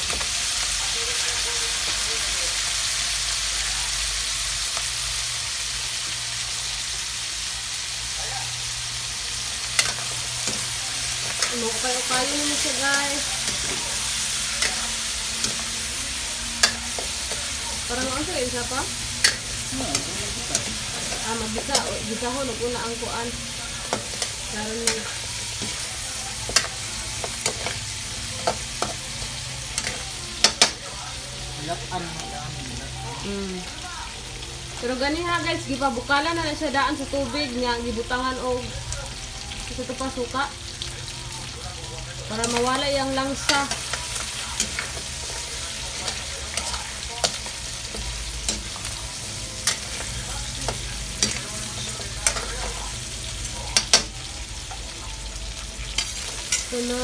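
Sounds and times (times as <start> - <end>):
meat sizzling in a wok: 0.0 - 57.0.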